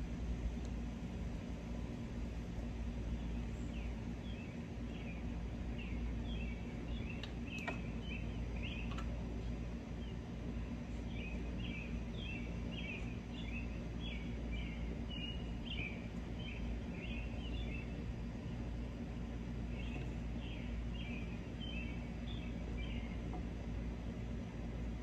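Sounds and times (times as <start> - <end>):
low outdoor rumble: 0.0 - 25.0
small birds chirping: 2.6 - 25.0.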